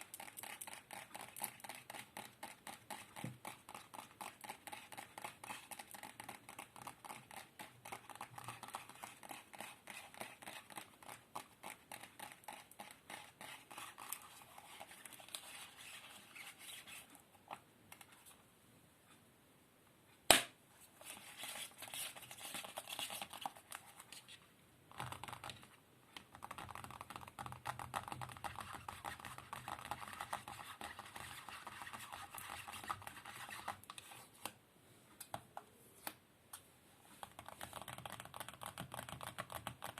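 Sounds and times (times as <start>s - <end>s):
tapping and scratching: 0.0s - 18.3s, 21.0s - 34.5s, 37.2s - 39.9s.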